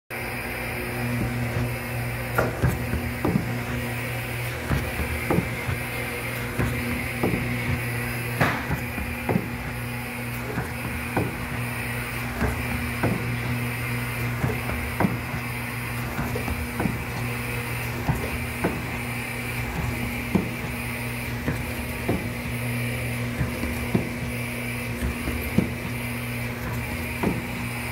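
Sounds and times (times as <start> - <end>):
vacuum hum: 0.1 - 27.9.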